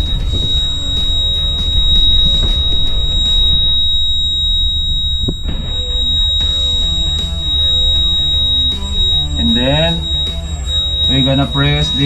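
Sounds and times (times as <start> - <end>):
background music: 0.0 - 12.0
high-pitched buzzer tone: 0.0 - 12.0.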